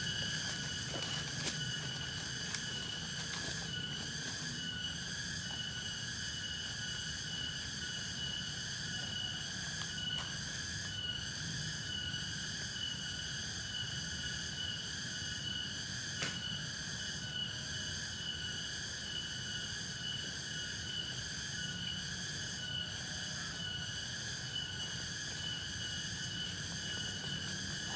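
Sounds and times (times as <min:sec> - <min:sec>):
insects chirping: 0:00.0 - 0:27.9.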